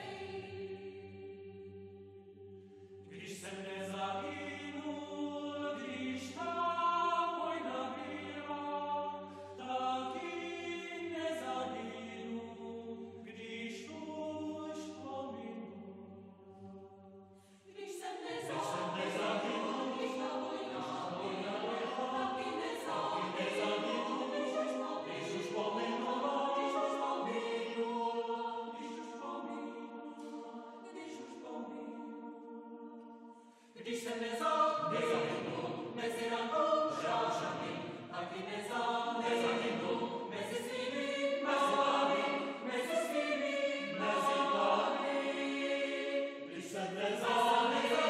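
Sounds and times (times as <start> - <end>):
mixed choir singing a cappella: 0.0 - 48.0.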